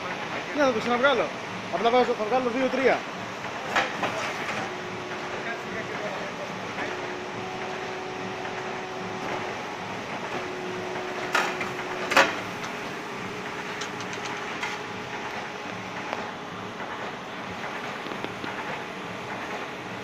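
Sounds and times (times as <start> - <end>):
machine running steadily: 0.0 - 20.0
loud machine clacks: 2.8 - 20.0.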